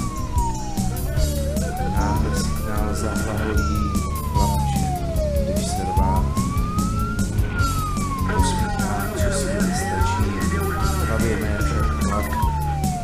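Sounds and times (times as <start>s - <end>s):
fire engine siren wailing: 0.0s - 13.0s
music with steady beat: 0.0s - 13.0s.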